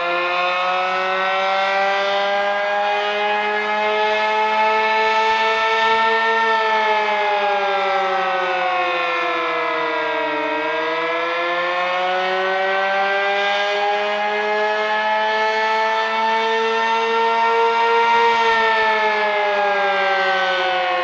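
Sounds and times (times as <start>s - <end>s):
warning siren wailing: 0.0s - 21.0s.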